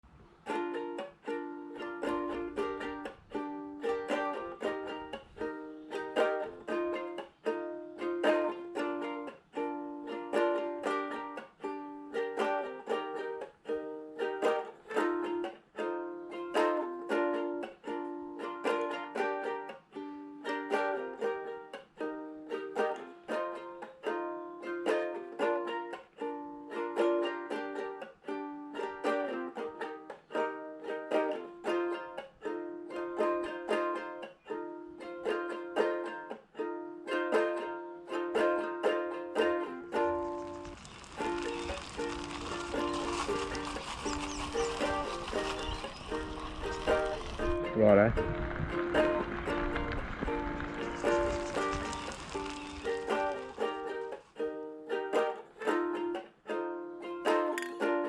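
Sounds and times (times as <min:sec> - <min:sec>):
plucked string instrument music: 0:00.0 - 0:58.0.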